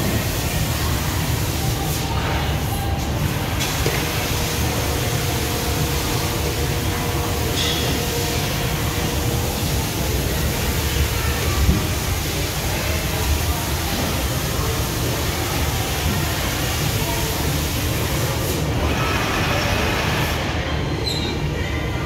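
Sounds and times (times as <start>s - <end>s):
laser cutting machine hissing: 0.0s - 20.6s.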